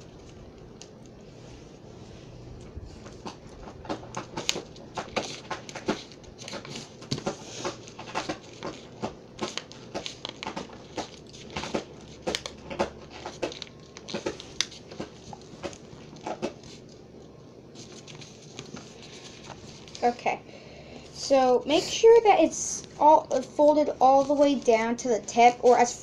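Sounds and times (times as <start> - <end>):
paper crinkling and rustling: 2.9 - 20.2, 21.7 - 26.0.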